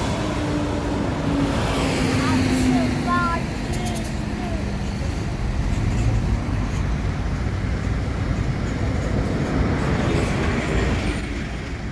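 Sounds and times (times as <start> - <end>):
jet airliner engine: 0.0 - 11.9
road traffic rumble: 0.0 - 11.9.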